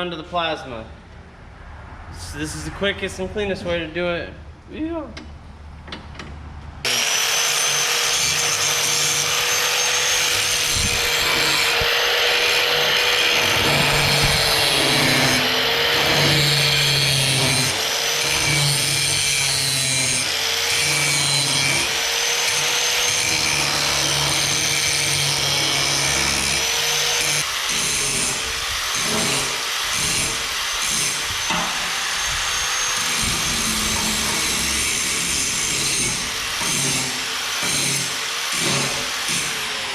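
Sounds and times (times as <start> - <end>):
power tool cutting steel: 6.8 - 39.9.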